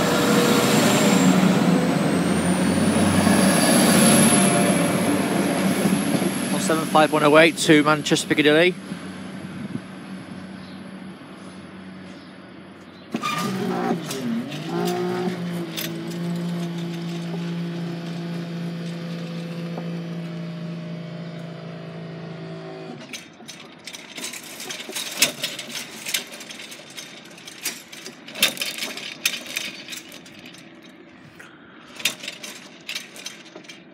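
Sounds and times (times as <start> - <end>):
barrier mechanism humming: 0.0 - 33.9.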